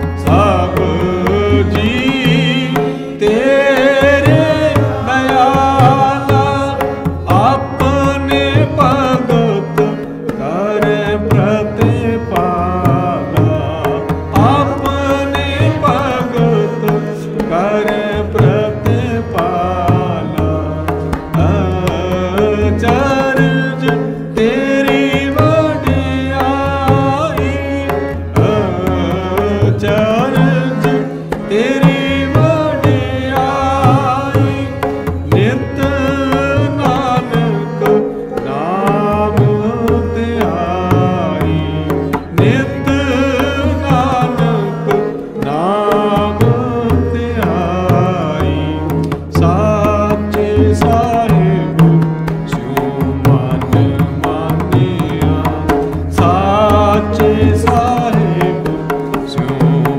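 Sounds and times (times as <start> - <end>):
harmonium: 0.0 - 59.9
person singing: 0.0 - 59.9
tabla beat: 0.0 - 59.9.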